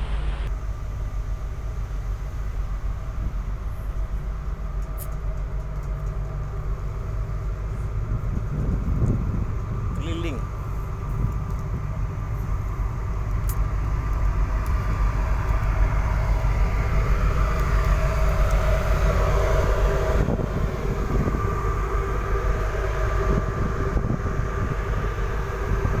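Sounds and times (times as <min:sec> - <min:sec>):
ship engines droning: 0:00.0 - 0:26.0.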